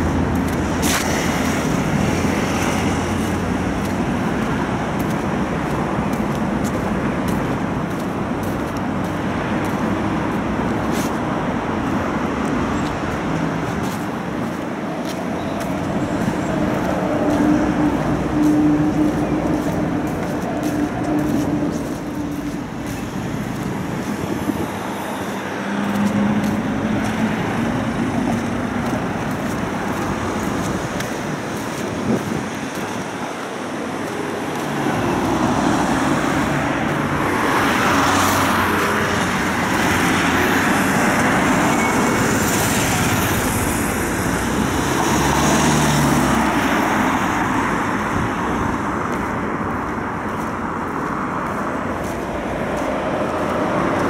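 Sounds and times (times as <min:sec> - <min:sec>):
road traffic hum: 0:00.0 - 0:54.0
vehicles passing close by: 0:00.0 - 0:54.0.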